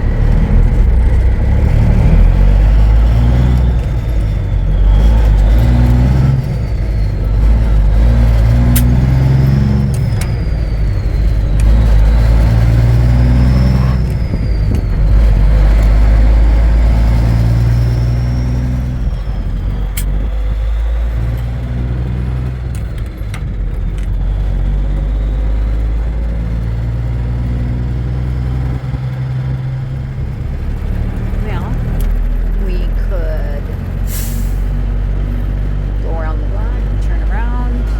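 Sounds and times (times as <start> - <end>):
diesel truck engine under load: 0.0 - 37.9.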